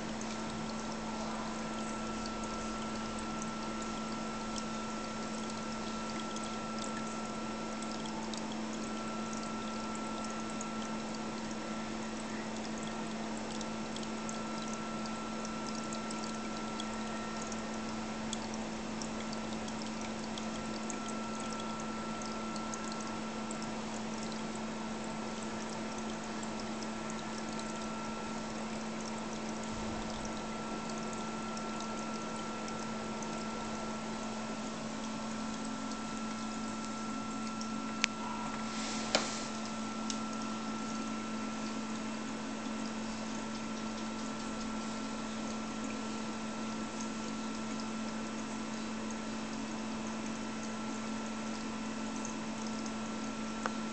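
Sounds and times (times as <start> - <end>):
steady hum: 0.0 - 47.8
aquarium filter water splashing: 0.0 - 53.9.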